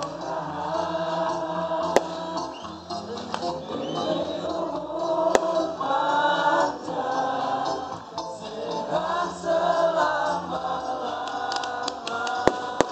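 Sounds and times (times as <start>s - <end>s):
group singing devotional song: 0.0s - 12.9s.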